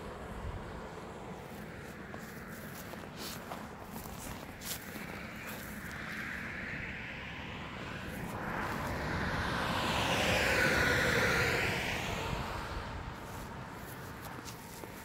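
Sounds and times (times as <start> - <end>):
vehicle passing on road: 0.0 - 15.0.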